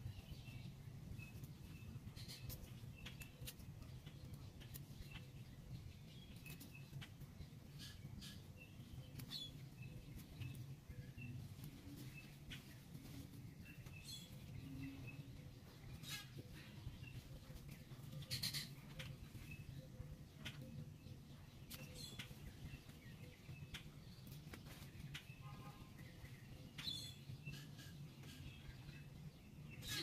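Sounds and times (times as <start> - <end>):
low steady hum: 0.0 - 30.0
small bird chirping: 0.0 - 30.0
clicks and rustles of plants: 1.2 - 19.7, 21.5 - 28.8.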